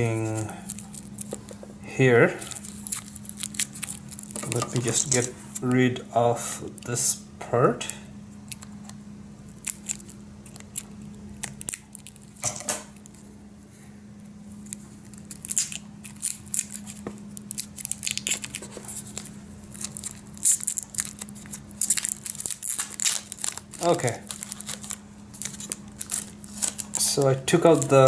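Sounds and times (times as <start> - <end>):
plastic wrapper crackling: 0.0 - 5.7, 8.5 - 9.0, 9.6 - 13.2, 14.6 - 28.0.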